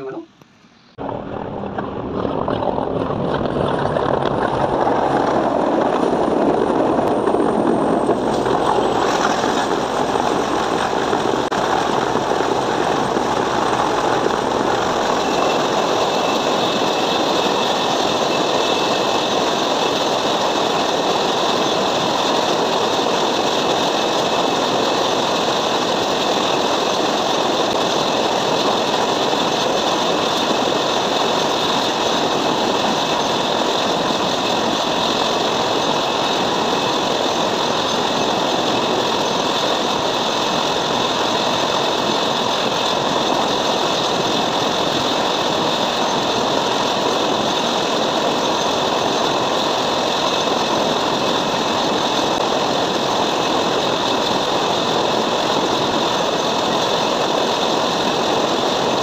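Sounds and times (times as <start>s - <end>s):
helicopter rotors and engines: 0.0s - 59.0s
high whine: 0.0s - 59.0s.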